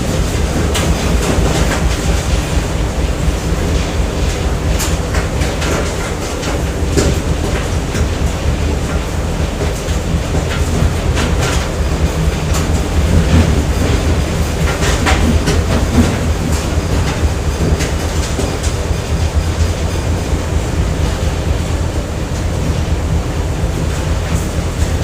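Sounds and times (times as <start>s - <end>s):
machinery low rumble: 0.0s - 25.0s.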